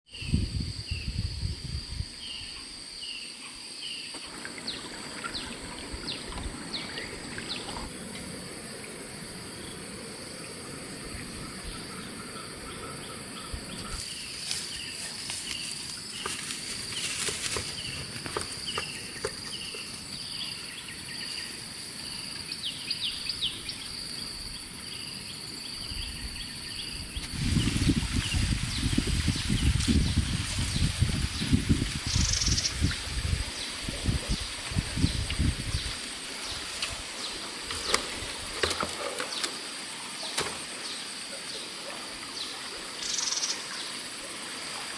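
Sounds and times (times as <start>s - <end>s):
insects droning: 0.1s - 44.9s.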